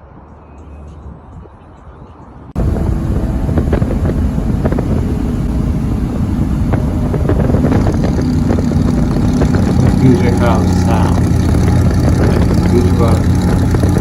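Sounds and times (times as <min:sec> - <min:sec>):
loud truck exhaust: 0:02.6 - 0:14.0
wind buffeting microphone: 0:02.6 - 0:14.0.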